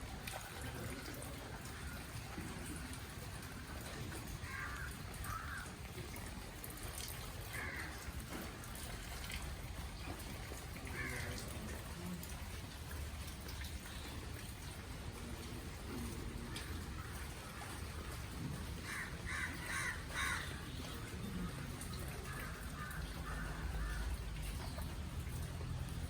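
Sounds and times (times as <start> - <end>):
steady outdoor noise: 0.0 - 26.0.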